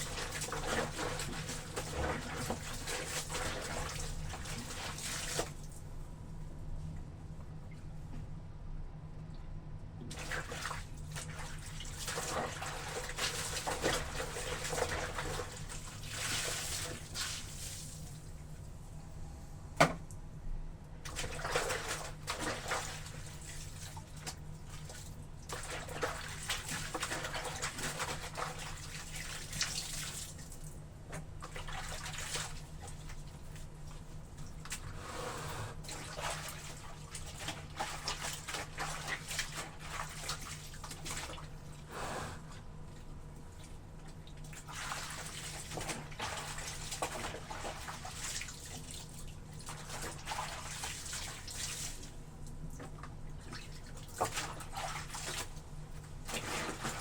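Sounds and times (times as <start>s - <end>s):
laundry sloshing in water: 0.0s - 6.0s, 10.1s - 18.3s, 21.0s - 35.0s, 35.7s - 57.0s.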